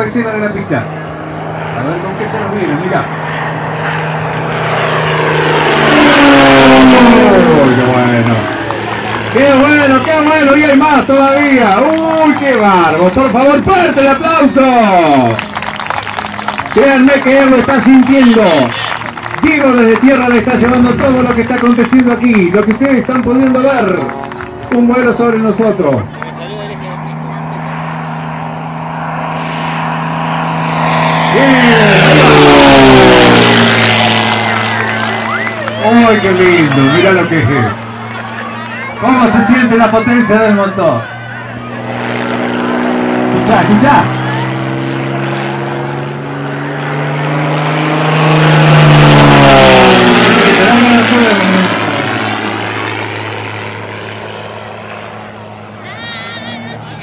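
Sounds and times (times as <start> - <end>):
propeller plane passing overhead: 0.0 - 57.0.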